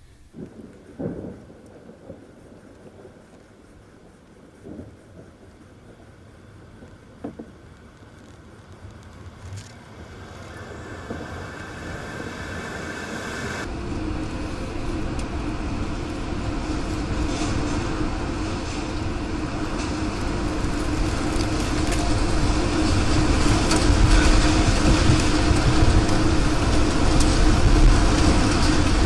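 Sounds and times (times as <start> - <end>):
tornado roaring: 0.3 - 29.0.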